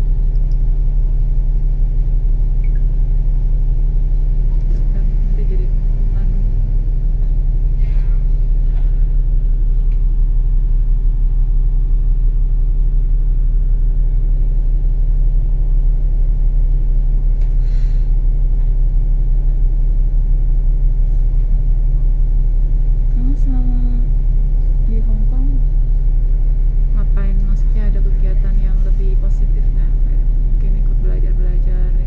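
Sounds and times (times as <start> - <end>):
bus engine rumble: 0.0 - 32.0.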